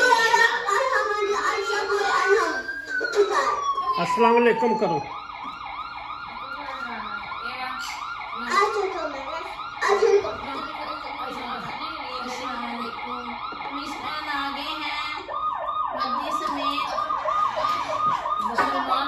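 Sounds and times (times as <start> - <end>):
toy police siren yelping: 0.0 - 14.0, 15.2 - 19.0.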